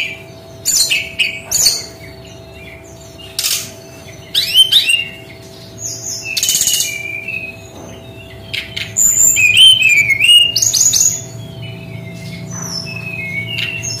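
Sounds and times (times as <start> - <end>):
bird singing whistled notes: 0.0 - 14.0
rattling bird calls: 0.0 - 14.0.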